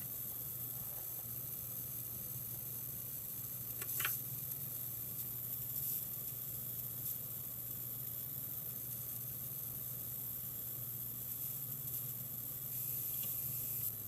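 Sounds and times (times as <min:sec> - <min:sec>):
electrical crackle: 0:00.0 - 0:14.0
high-pitched hiss: 0:00.0 - 0:14.0.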